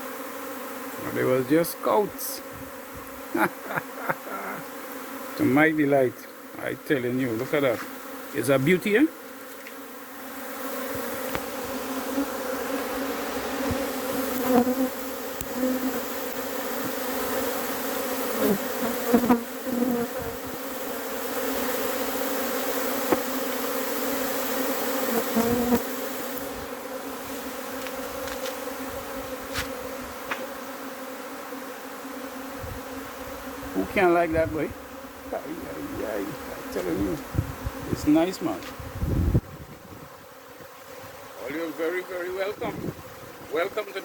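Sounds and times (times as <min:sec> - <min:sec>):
bee swarm buzzing: 0:00.0 - 0:44.0
bees passing close: 0:00.0 - 0:44.0.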